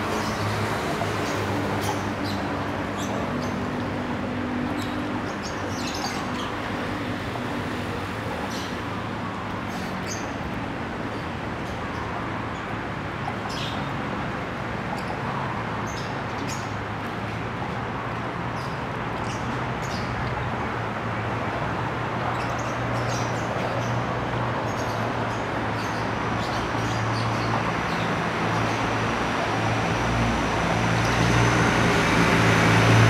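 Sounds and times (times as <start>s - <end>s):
distant traffic hum: 0.0s - 33.0s.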